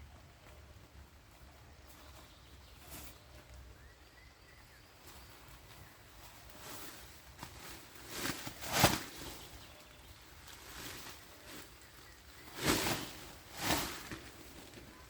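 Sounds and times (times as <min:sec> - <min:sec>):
quiet rustling: 0:00.0 - 0:15.0
rustle or crunch: 0:01.3 - 0:03.9, 0:04.8 - 0:15.0.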